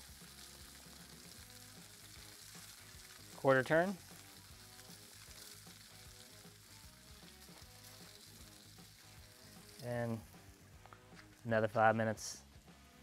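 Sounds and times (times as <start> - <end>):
butter sizzling on a griddle: 0.0 - 11.6.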